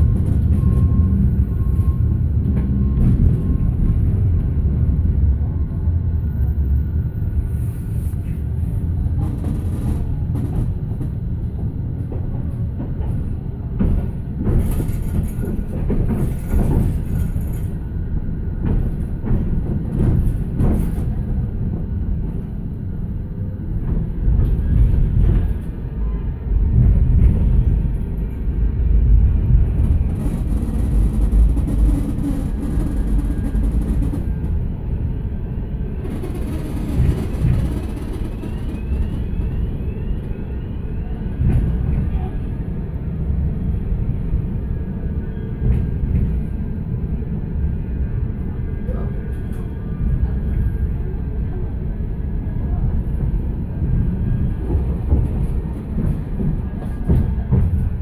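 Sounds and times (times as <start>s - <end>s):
tram wheels rumbling on rails: 0.0s - 58.0s.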